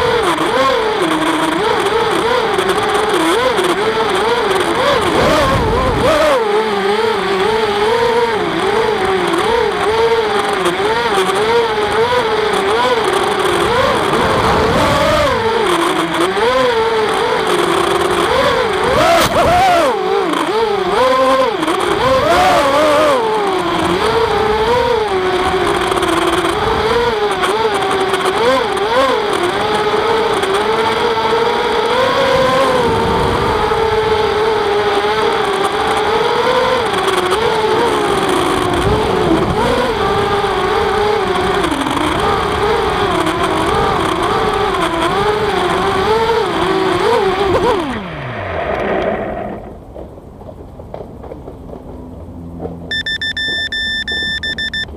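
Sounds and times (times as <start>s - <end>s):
drone motors whining: 0.0s - 50.1s, 52.4s - 54.9s.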